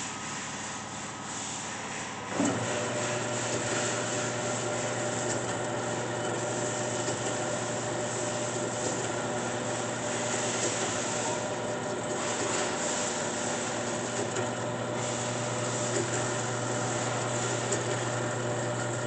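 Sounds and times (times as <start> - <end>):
band saw motor humming: 2.1 - 19.0.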